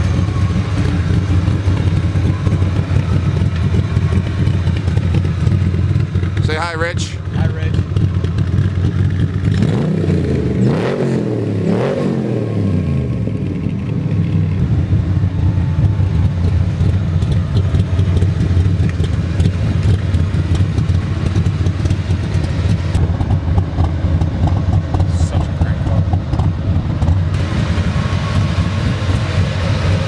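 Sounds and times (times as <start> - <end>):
car engine revving and idling: 0.0 - 30.0.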